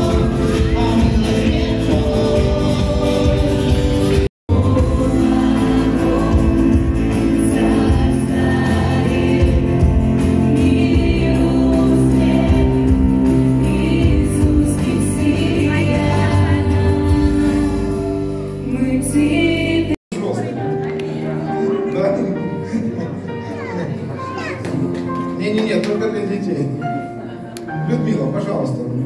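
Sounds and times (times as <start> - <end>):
congregation singing worship song: 0.0 - 23.4.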